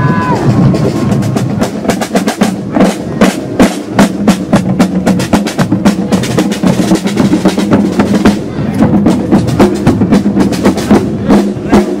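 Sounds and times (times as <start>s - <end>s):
marching snare drums: 0.1s - 12.0s.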